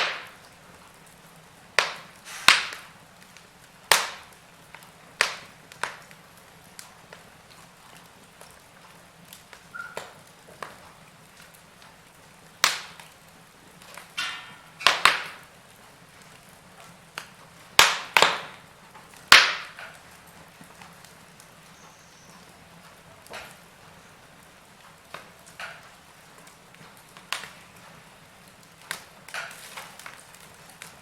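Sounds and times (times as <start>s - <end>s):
faint steady hiss: 0.0s - 31.0s
wood fire crackling and popping: 0.0s - 31.0s.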